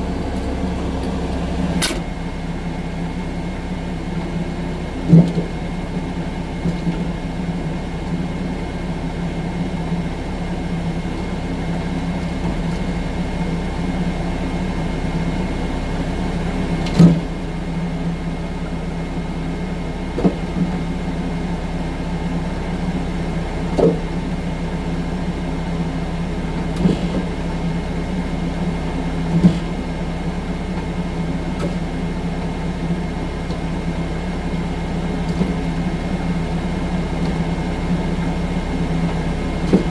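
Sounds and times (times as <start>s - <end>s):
loader engine running steadily: 0.0s - 39.9s.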